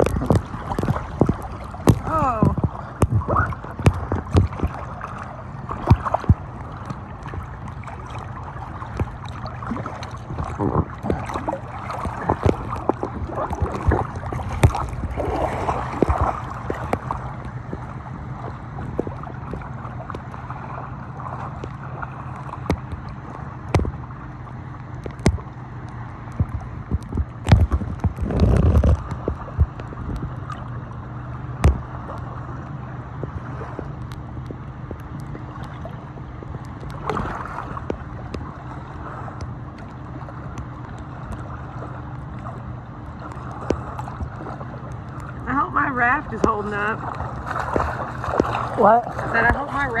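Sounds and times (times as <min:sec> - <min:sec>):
water splashing against raft: 0:00.0 - 0:50.0.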